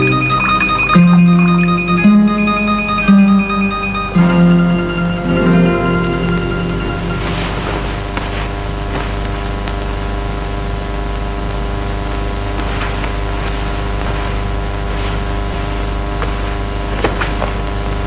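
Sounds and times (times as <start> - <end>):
film soundtrack hiss and hum: 0.0 - 18.0.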